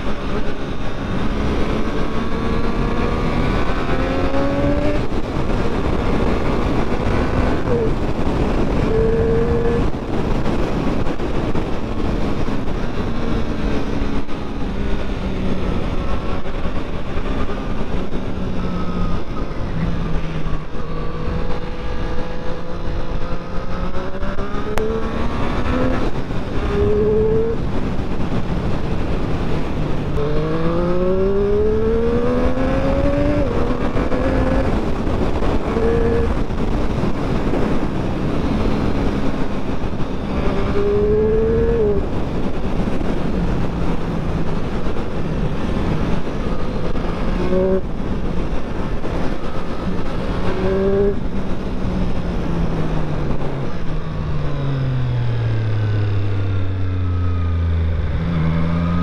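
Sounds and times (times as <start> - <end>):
motorcycle engine revving: 0.0 - 10.8, 11.4 - 59.0
wind noise: 0.0 - 59.0.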